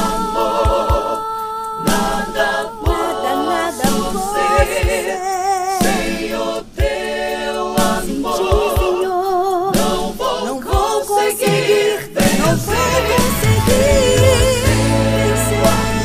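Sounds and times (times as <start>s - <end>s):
women singing in harmony: 0.0s - 16.0s.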